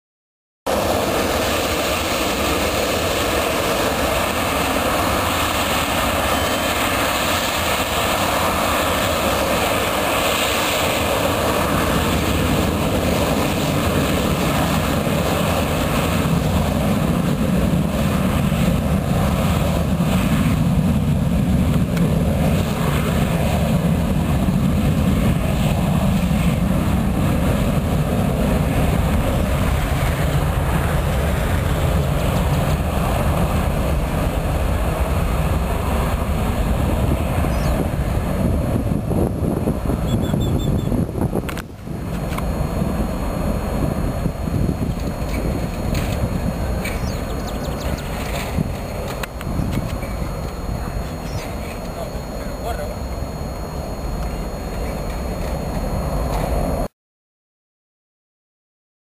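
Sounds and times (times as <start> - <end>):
jet engine deep rumble: 0.7 - 56.9
jet engines whining and hissing: 0.7 - 56.9.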